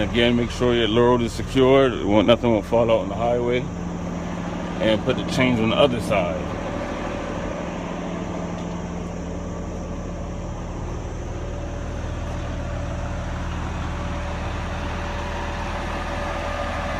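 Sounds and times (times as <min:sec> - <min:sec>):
truck engine idling: 0:00.0 - 0:16.9.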